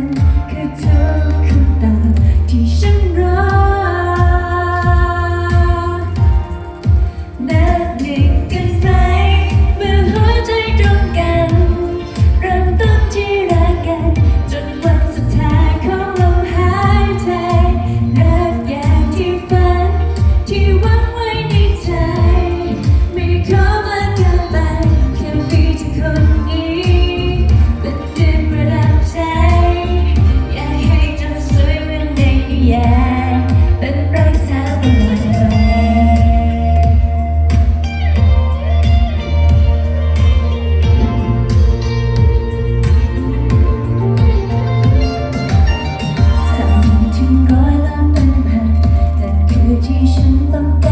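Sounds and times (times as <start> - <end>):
woman singing: 0.0 - 45.0, 46.1 - 50.9
band with strong bass: 0.0 - 50.9.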